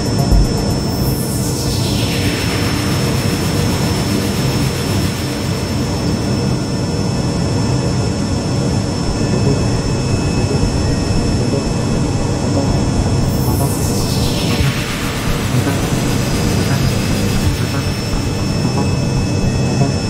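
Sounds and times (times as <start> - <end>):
jet engine rush and whine: 0.0 - 20.0.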